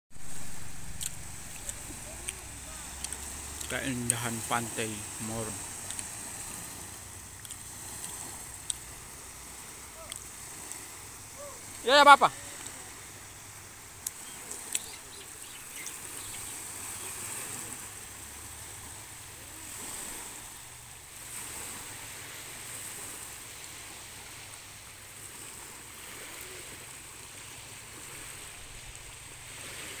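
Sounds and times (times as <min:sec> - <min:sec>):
waves lapping on pebbly beach: 0:00.1 - 0:30.0.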